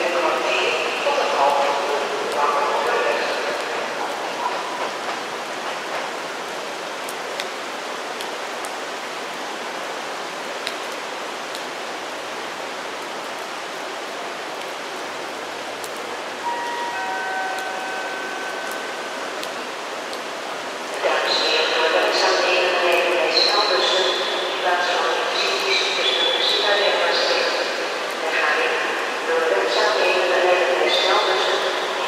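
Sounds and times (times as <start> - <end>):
rain hissing on platforms: 0.0 - 32.0.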